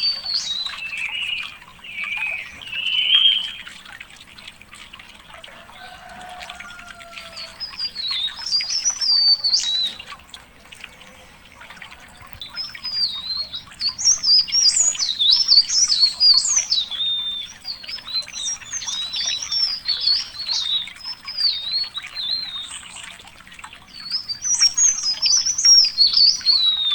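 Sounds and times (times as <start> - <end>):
songbird twittering warble: 0.0 - 4.3, 5.0 - 26.9.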